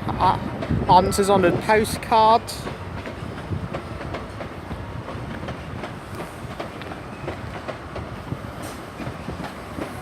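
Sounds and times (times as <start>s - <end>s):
train low rumble: 0.0s - 10.0s
train wheels clicking over rail joints: 0.1s - 0.9s, 1.5s - 10.0s.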